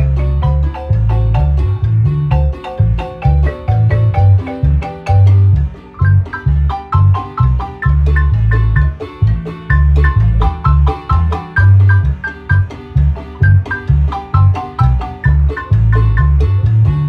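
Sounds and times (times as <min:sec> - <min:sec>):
marimba melody: 0:00.0 - 0:17.0
sustained bass line: 0:00.0 - 0:17.0.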